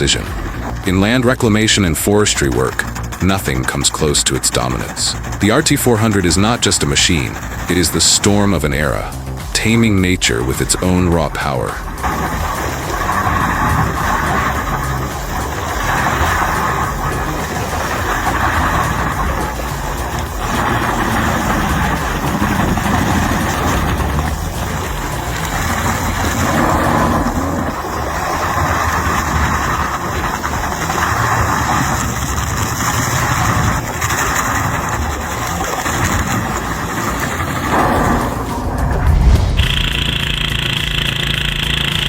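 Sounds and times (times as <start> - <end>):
diesel engine rumbling: 0.0 - 42.0.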